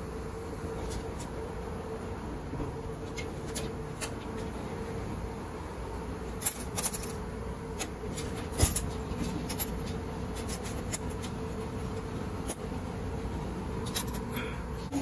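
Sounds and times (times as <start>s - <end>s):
steady machinery hum: 0.0s - 15.0s.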